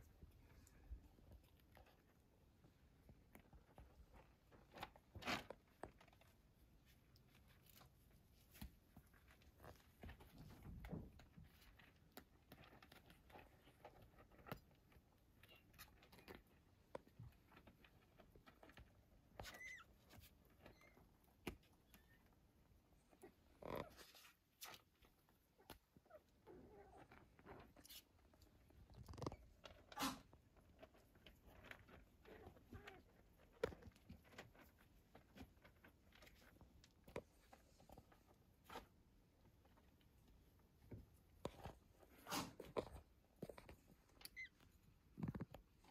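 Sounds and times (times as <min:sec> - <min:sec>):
faint small clicks and rustles: 0:00.0 - 0:45.9.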